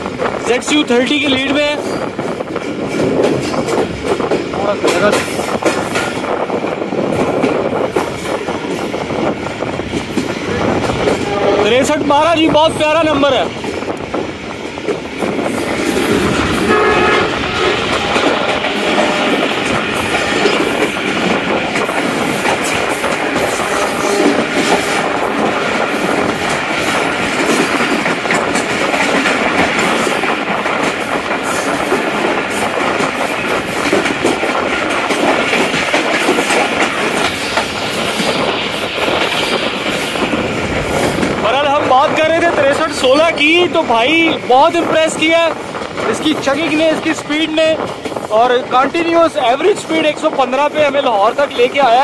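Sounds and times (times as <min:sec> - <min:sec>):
train rolling noise: 0:00.0 - 0:52.0
wheels clattering over rail joints: 0:00.0 - 0:52.0.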